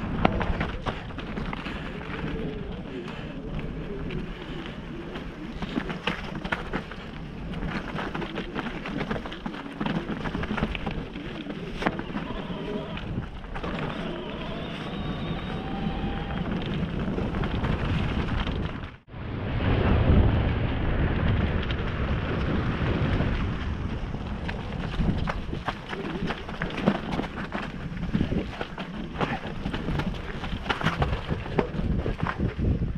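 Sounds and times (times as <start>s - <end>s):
bike rattling: 0.0s - 19.1s, 20.5s - 32.9s
bike tyres rolling over gravel: 0.0s - 32.9s
wind noise on microphone: 0.0s - 32.9s.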